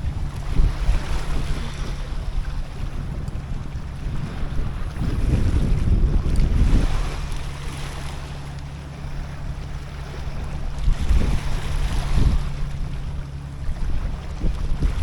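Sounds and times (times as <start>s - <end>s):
steady low hum: 0.0s - 15.0s
wind buffeting microphone: 0.0s - 15.0s.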